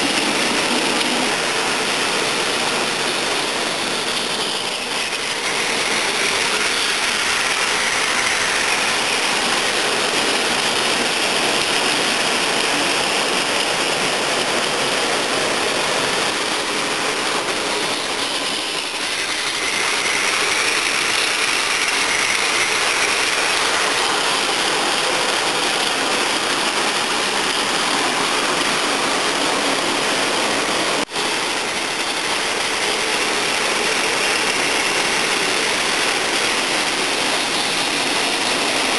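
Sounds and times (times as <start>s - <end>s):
toy train motors whirring: 0.0s - 38.9s
wheels rattling on plastic track: 0.0s - 38.9s.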